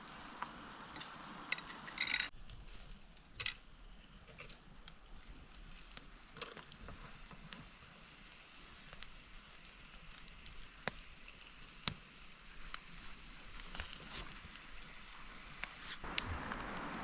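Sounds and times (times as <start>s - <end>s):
campfire crackling: 0.0s - 17.0s
fire popping: 0.0s - 17.0s
soft hiss: 0.0s - 17.0s.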